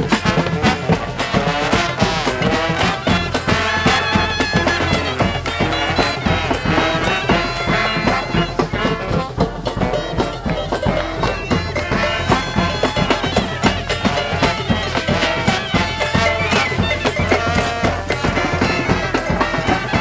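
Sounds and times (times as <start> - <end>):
brass band playing: 0.0 - 20.0
drum hits: 0.0 - 20.0.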